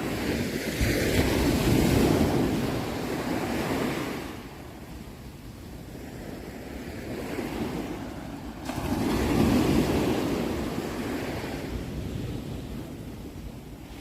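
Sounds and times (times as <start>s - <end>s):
ocean waves washing in: 0.0s - 14.0s.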